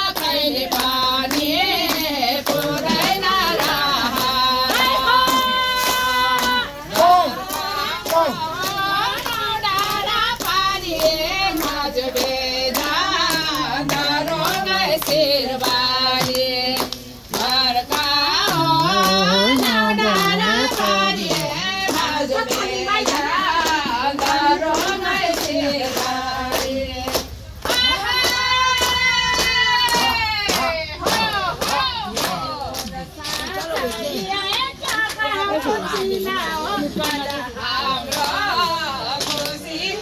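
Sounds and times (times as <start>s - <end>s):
hand claps: 0.0s - 40.0s
women singing together: 0.0s - 40.0s.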